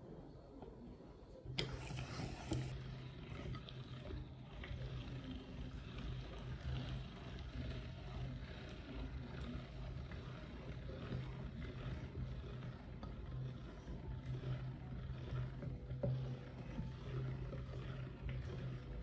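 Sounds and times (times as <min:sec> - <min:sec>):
hand-cranked meat grinder grinding: 0:01.5 - 0:19.0.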